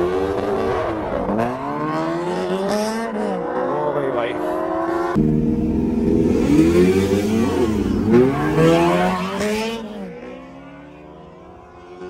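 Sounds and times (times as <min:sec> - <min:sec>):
motorcycle engines accelerating: 0:00.0 - 0:12.0.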